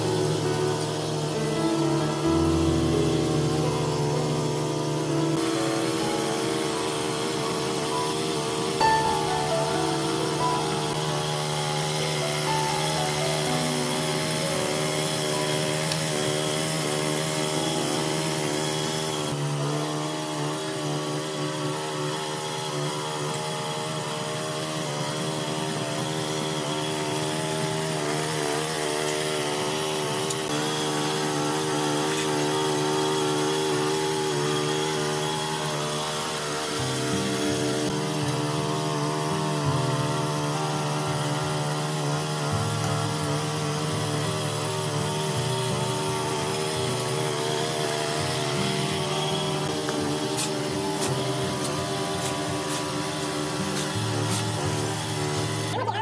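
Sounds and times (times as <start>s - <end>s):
tiller petrol engine under load: 0.0s - 56.0s
tines churning wet mix: 0.0s - 56.0s.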